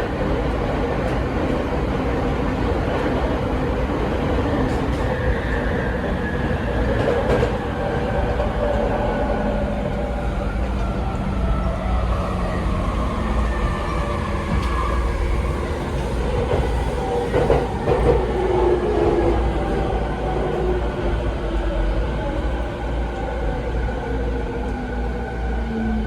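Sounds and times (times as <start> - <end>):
train running rumble: 0.0 - 25.3.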